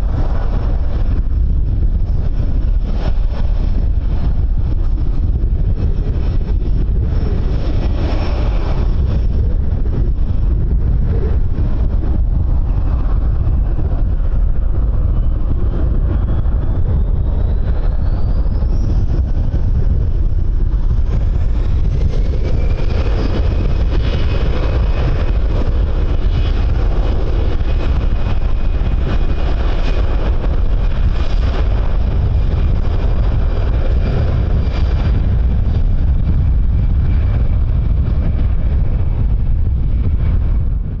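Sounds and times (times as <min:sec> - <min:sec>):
jet engines whining: 0:00.0 - 0:41.0
wind rumble on microphone: 0:00.0 - 0:41.0.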